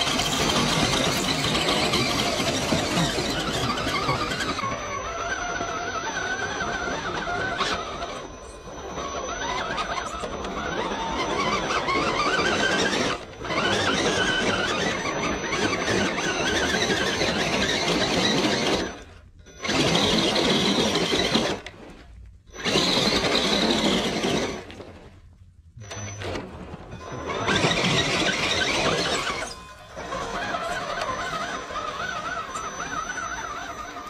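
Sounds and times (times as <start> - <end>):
electric motor and gears whining: 0.0 - 34.0.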